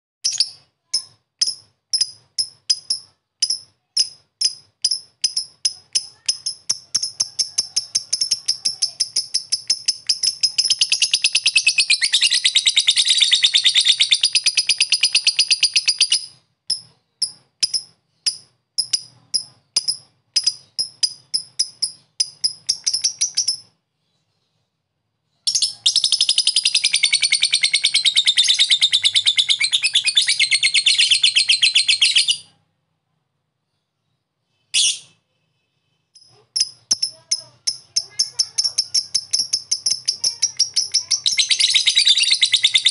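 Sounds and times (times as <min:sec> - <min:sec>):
lovebird chirping and trilling: 0:00.2 - 0:24.5, 0:25.3 - 0:32.6, 0:34.0 - 0:35.2, 0:36.1 - 0:42.9.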